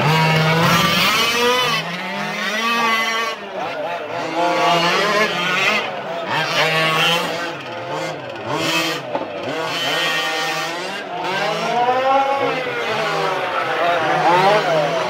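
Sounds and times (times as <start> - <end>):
small race car engines revving: 0.0 - 15.0.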